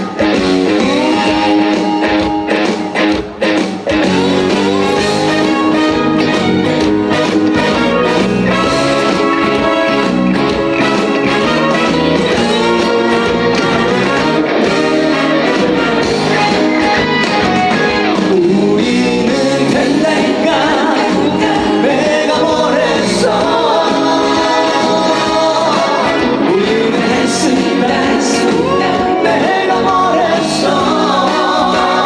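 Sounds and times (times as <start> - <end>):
full band backing track: 0.0 - 32.0.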